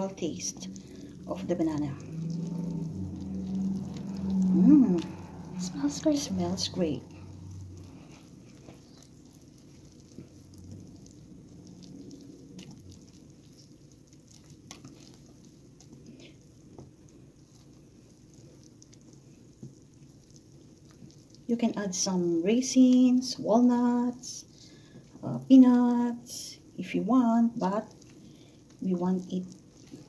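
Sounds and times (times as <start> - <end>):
whisk stirring batter: 0.0 - 30.0.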